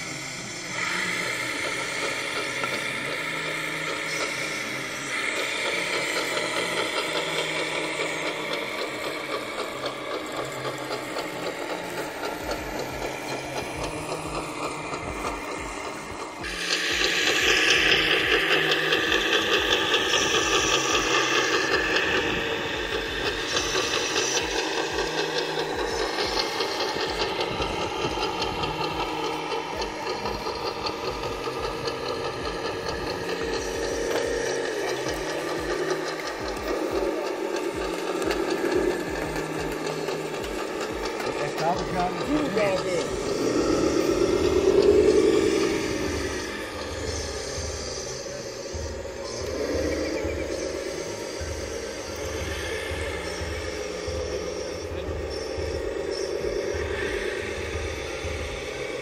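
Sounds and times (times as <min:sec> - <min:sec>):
rapid continuous clicking: 0:00.0 - 0:59.0
rc truck gear drive whirring: 0:00.0 - 0:59.0.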